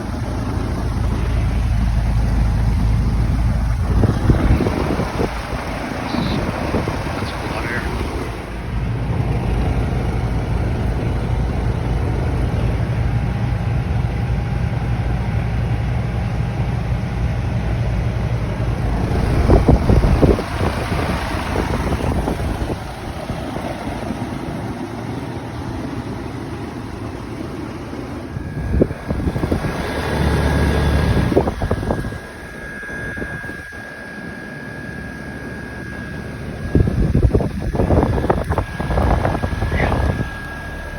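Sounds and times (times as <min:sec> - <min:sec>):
air conditioner unit humming: 0:00.0 - 0:40.9
thin high whine: 0:00.0 - 0:40.9.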